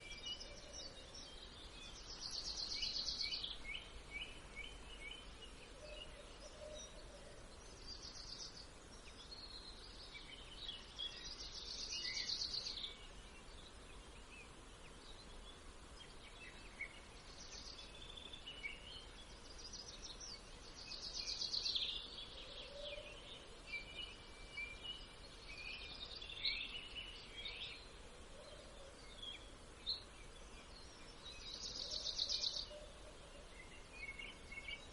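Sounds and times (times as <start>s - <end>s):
bird chirps: 0.0s - 34.9s
birds trilling song: 0.0s - 34.9s
low background hiss: 0.0s - 34.9s.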